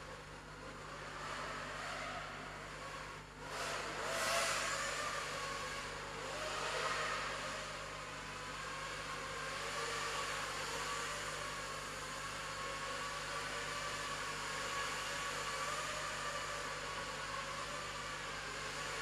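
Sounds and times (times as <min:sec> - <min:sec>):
quadcopter motor whine: 0:00.5 - 0:19.0.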